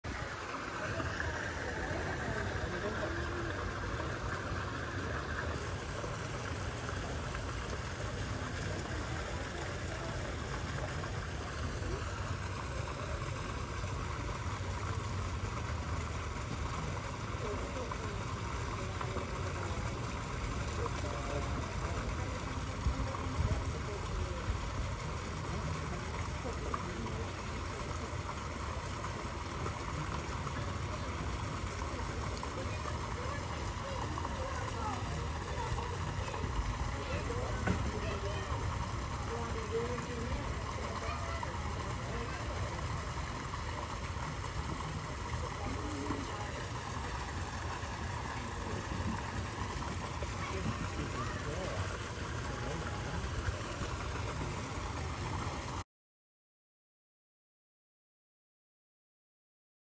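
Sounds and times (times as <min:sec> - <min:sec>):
faint distant voices: 0:00.0 - 0:55.8
running water rushing: 0:00.0 - 0:55.8
low rumble and hiss: 0:00.1 - 0:55.8.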